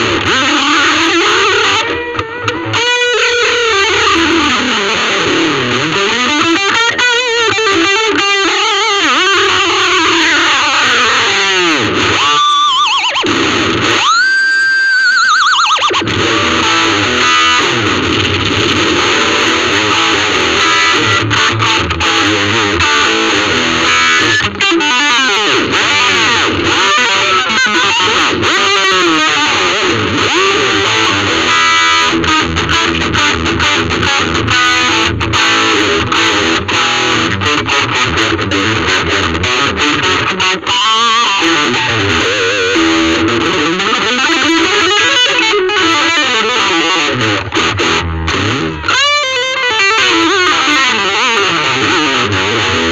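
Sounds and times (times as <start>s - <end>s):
distorted electric guitar lead: 0.0s - 52.9s.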